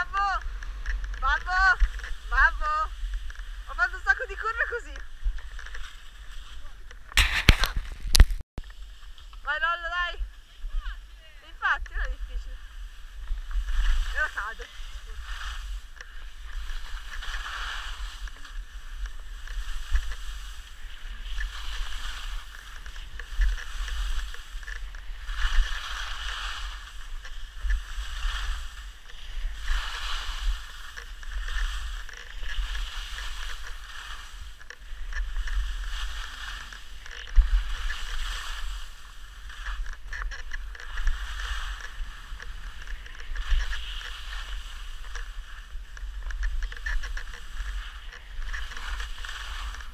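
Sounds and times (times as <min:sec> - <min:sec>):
skis scraping over snow: 0:00.0 - 0:49.9
wind rumble on microphone: 0:00.0 - 0:49.9.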